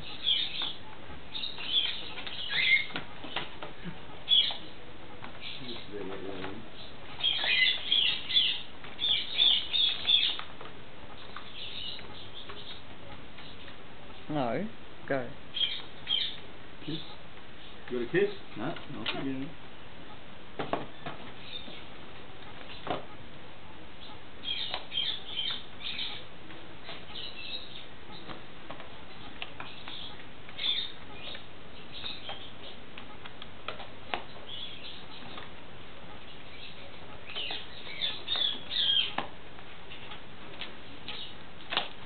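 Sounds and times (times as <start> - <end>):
corella chirping: 0.0 - 6.1, 6.7 - 14.3, 15.4 - 20.3, 20.9 - 41.8.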